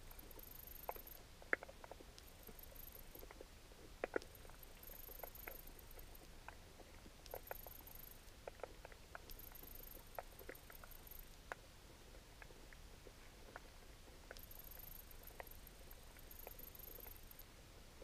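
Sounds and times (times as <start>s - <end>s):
faint underwater clicks and snaps: 0.0s - 17.6s.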